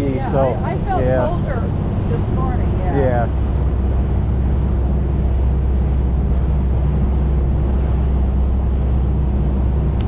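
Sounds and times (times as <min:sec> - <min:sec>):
boat engine droning: 0:00.0 - 0:10.0
water rushing past hull: 0:00.0 - 0:10.0
wind buffeting microphone: 0:00.0 - 0:10.0.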